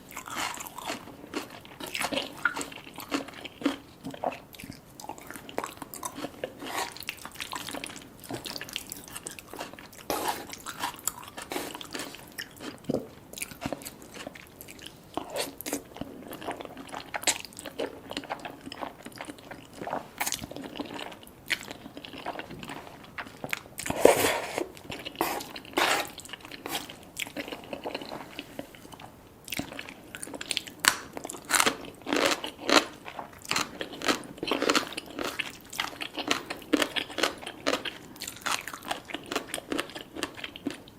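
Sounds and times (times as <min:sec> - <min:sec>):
biting and chewing crunches: 0:00.1 - 0:24.0, 0:29.5 - 0:40.8.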